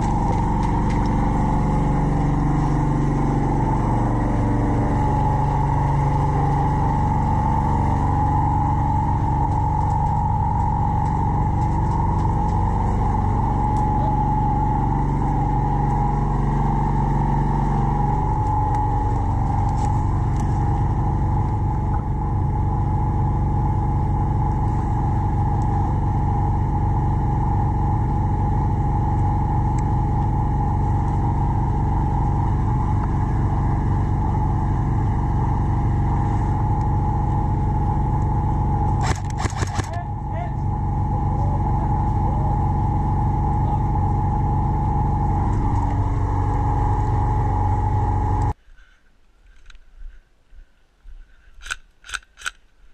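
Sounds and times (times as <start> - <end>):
motor drone: 0.0 - 48.6.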